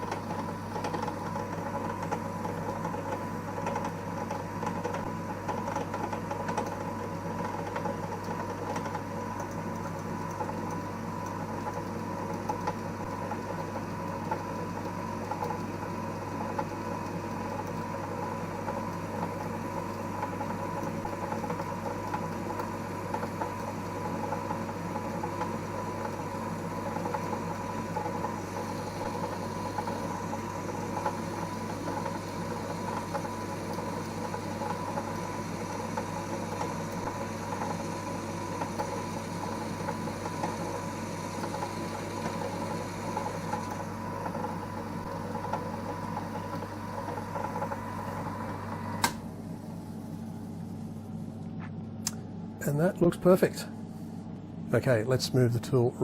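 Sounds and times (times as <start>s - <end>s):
lathe hum and whine: 0.0s - 56.0s.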